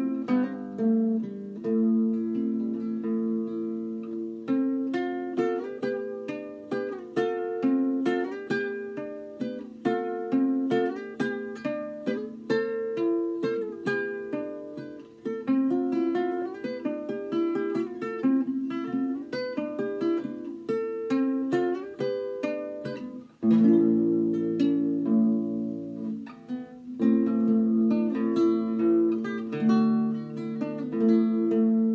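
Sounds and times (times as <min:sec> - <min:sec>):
classical guitar playing: 0:00.0 - 0:31.9.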